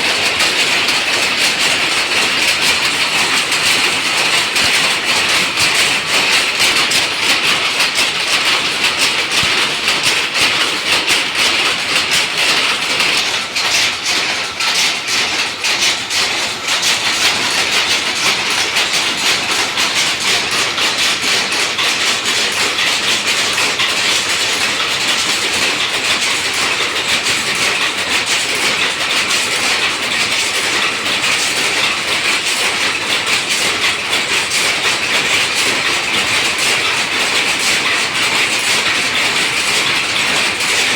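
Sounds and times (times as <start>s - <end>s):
weaving looms clattering: 0.0s - 40.9s.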